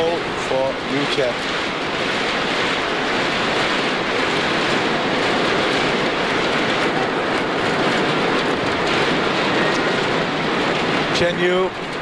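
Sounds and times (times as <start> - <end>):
thundersticks clattering: 0.0 - 12.0.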